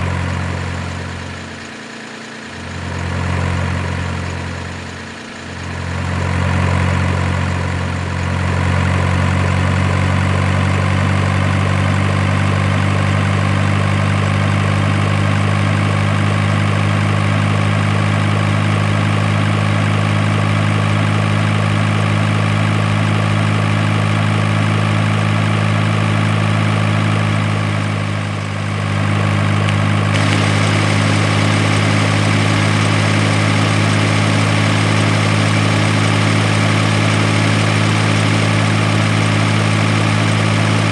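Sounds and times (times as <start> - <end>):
heavy vehicle engine running: 0.0 - 40.9.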